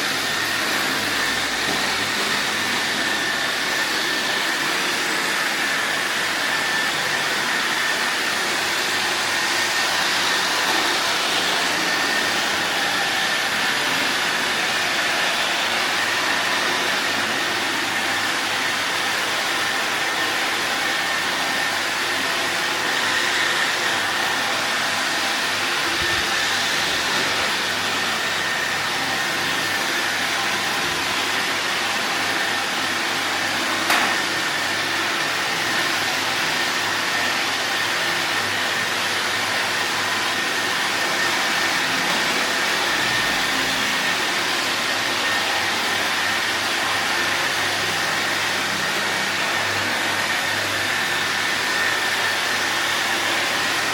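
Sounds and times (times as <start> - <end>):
robot vacuum cleaner whirring: 0.0 - 53.9.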